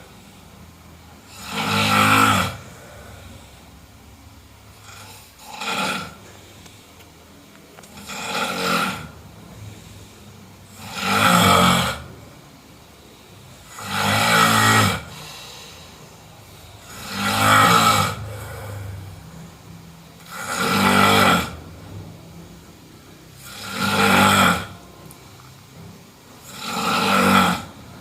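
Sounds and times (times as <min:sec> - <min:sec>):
person snoring: 0:01.2 - 0:04.0, 0:04.7 - 0:06.9, 0:07.8 - 0:12.3, 0:13.1 - 0:22.1, 0:23.4 - 0:28.0.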